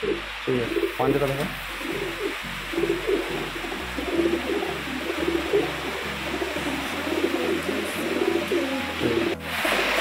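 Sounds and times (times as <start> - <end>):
pigeons cooing: 0.0 - 10.0
steady hiss: 0.0 - 10.0.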